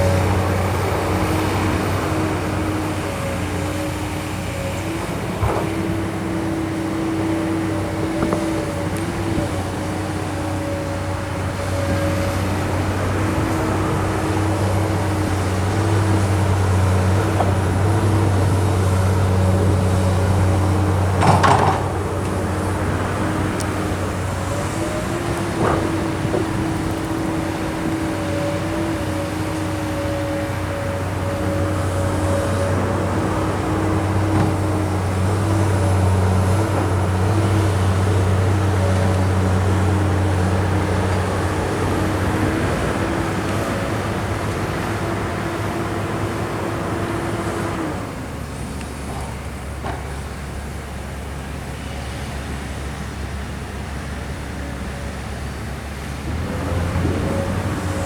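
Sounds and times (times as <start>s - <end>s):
steady whining tone: 0.0s - 49.2s
excavator engine hum: 0.0s - 58.0s.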